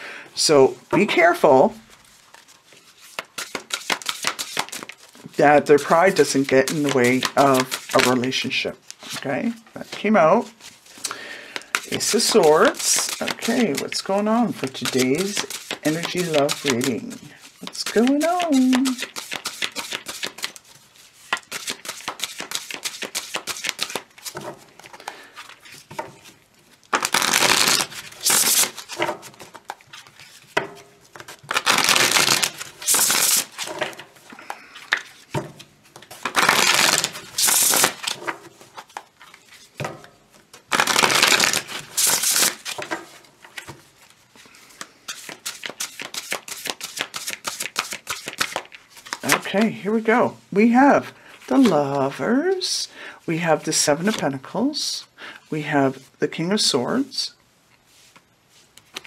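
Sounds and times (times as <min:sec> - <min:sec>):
cards being shuffled: 0:02.1 - 0:39.8, 0:40.4 - 0:49.8, 0:57.9 - 0:59.0.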